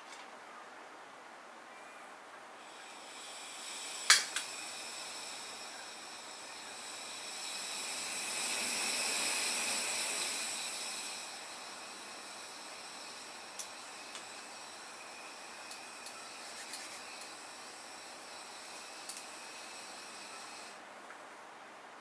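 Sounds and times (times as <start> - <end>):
burning flame hissing: 2.5 - 20.9
gas hiss: 2.5 - 20.9.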